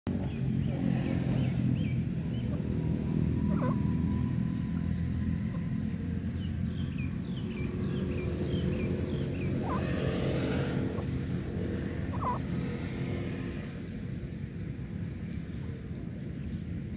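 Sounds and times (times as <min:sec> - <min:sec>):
low steady rumble: 0:00.1 - 0:16.9.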